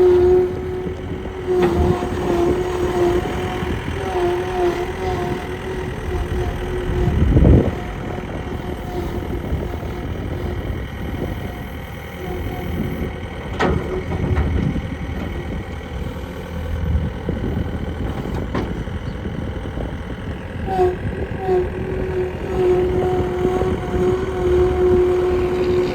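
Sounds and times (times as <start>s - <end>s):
skid steer engine running: 0.0s - 25.9s.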